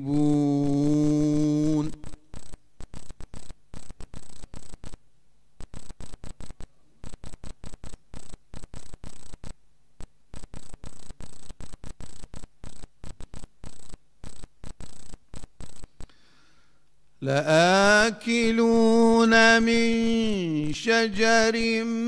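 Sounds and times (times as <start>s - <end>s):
static crackling: 0.0s - 16.3s, 16.9s - 22.0s
faint steady hum: 0.0s - 22.0s.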